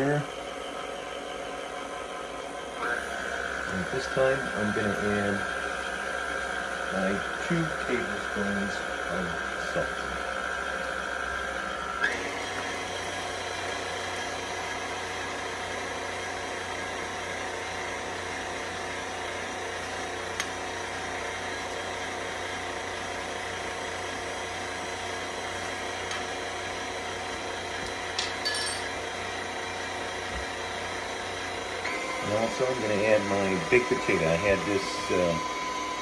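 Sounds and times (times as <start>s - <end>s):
stand mixer motor whine: 0.0s - 36.0s.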